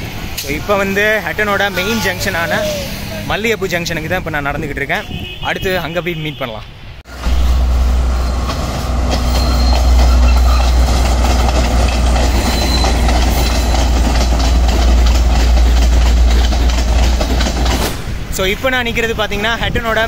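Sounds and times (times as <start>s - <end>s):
passenger train rumbling past: 0.0s - 4.7s, 7.1s - 20.0s.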